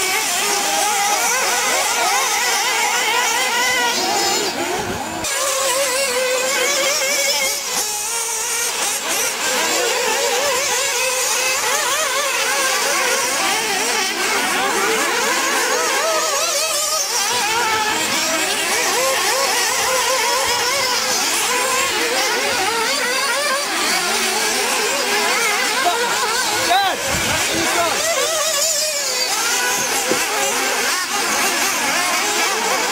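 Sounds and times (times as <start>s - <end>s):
small engines whining: 0.0s - 32.9s.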